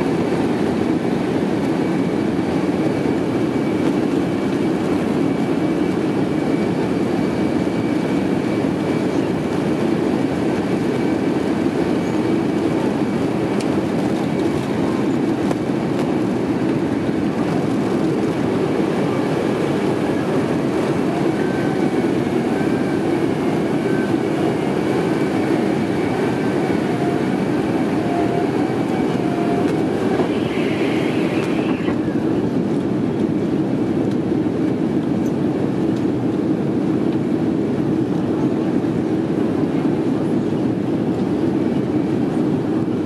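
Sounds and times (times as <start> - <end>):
jet engine roar in cabin: 0.0 - 43.0.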